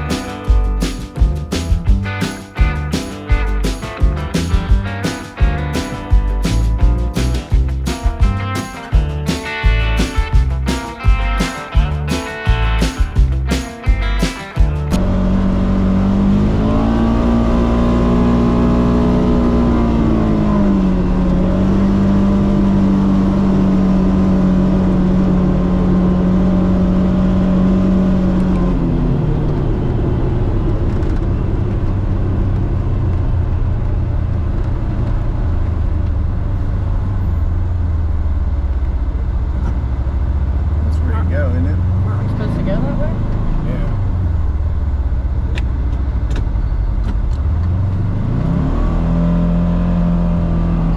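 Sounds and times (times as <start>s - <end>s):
vehicle engine running: 0.0s - 50.9s.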